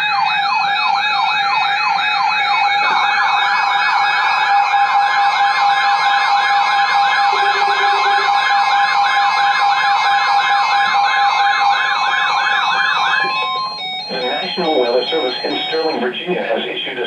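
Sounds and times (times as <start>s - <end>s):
electronic siren alert tone: 0.0s - 16.4s.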